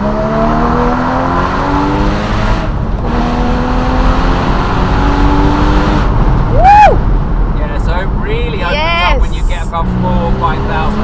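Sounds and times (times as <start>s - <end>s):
wind noise: 0.0s - 9.6s
car engine accelerating hard: 0.0s - 11.0s
road noise: 0.0s - 11.0s.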